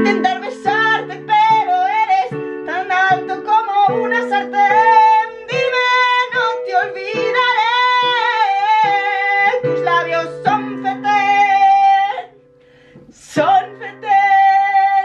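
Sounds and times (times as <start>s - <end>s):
woman singing a slow ballad: 0.0s - 12.4s, 13.1s - 15.0s.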